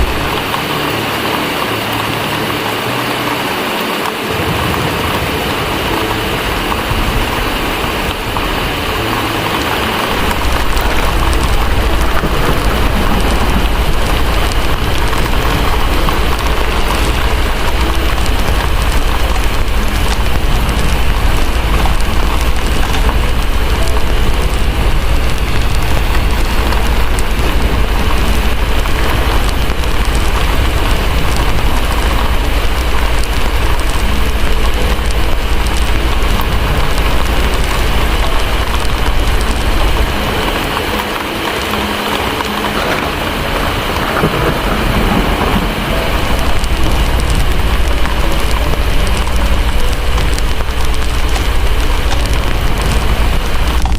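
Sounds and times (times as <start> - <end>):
heavy rain: 0.0 - 53.9
wood fire crackling: 0.0 - 53.9
thunder rumbling: 4.1 - 53.9.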